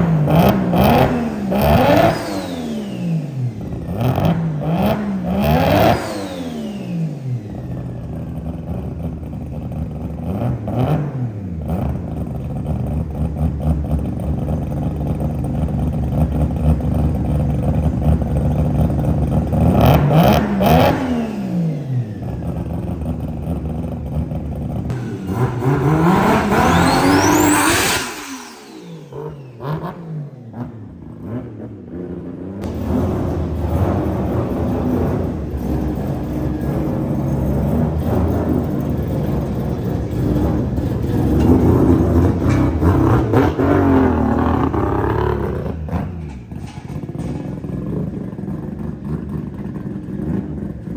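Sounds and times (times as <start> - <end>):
rotary engine revving: 0.0 - 15.3, 16.1 - 50.9.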